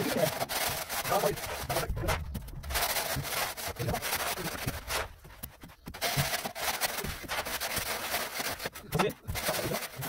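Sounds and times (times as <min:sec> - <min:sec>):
board scraping on wet cement: 0:00.0 - 0:10.0.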